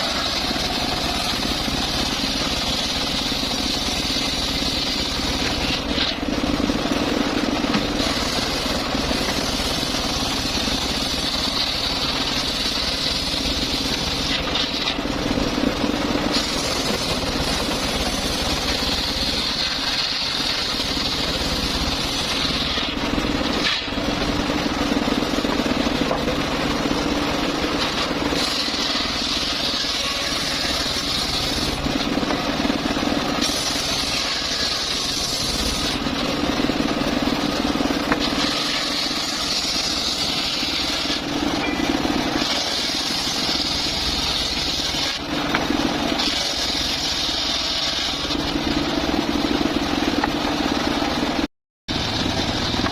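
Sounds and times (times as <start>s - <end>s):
circular saw whine cutting wood: 0.0s - 52.9s
engine hum: 0.0s - 52.9s.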